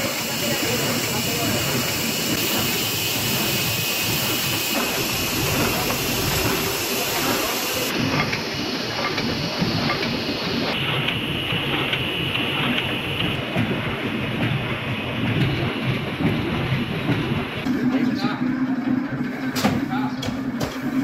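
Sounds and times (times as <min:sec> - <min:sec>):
printing press clattering: 0:00.0 - 0:21.0.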